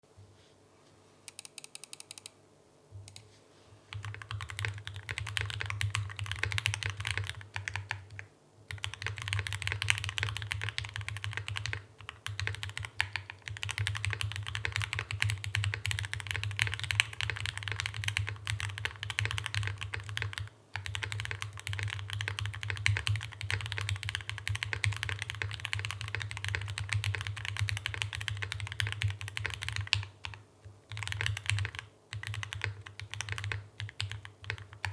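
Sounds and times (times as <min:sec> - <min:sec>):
mechanical keyboard typing: 0:03.9 - 0:34.9.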